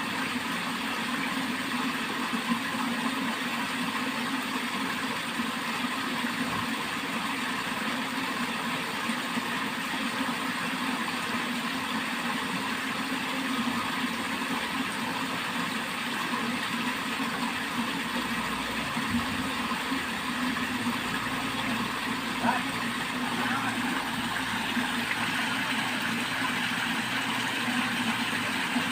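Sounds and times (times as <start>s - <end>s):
water flowing along a channel: 0.0s - 28.9s.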